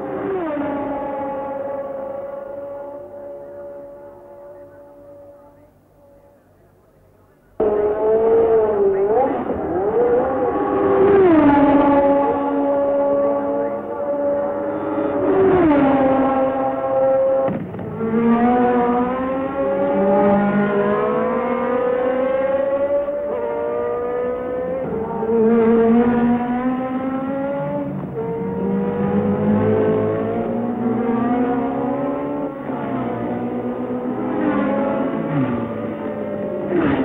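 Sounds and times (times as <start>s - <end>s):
race car engines accelerating: 0.0s - 6.6s, 7.5s - 37.0s.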